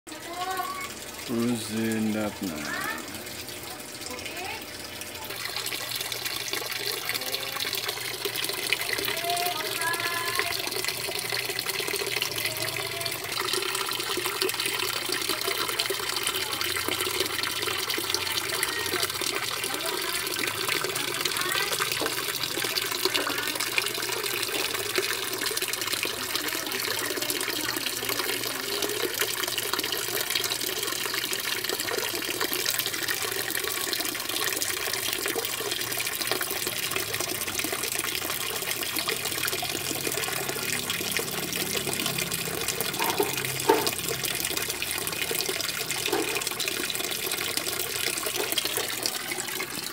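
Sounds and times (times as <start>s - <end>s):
water pouring into pond: 0.2s - 49.9s.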